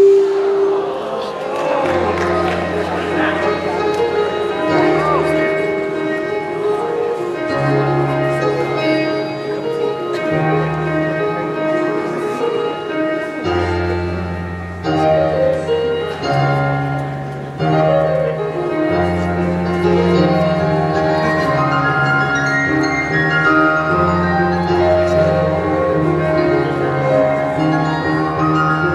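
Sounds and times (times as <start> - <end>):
solo piano slow piece: 0.0 - 28.9.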